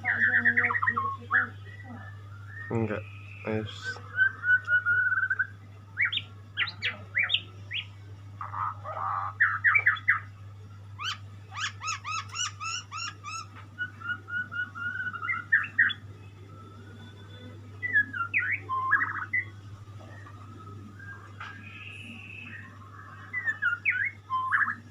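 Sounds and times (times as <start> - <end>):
songbird singing: 0.0 - 10.4, 11.0 - 24.9
steady low hum: 0.0 - 24.9.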